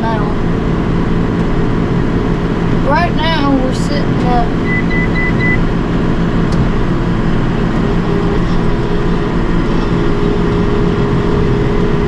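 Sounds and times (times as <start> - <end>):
hay baler working: 0.0 - 12.0
tractor diesel engine under load: 0.0 - 12.0.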